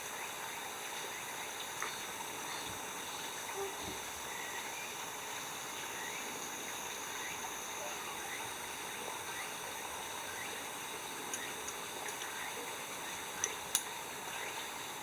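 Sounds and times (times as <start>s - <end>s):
high insect chorus: 0.0s - 15.0s.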